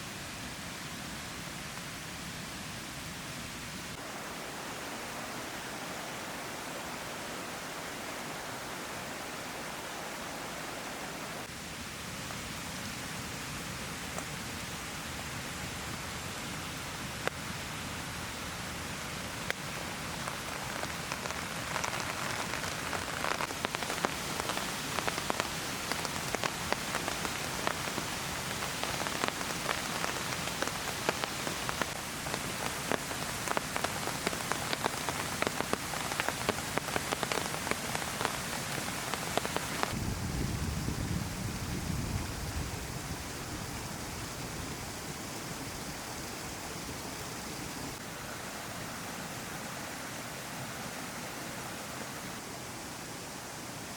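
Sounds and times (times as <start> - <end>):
heavy rain falling: 2.8 - 53.9.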